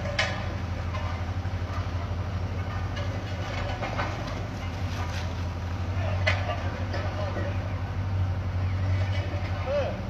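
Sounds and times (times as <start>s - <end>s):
road roller diesel engine running: 0.0s - 10.0s.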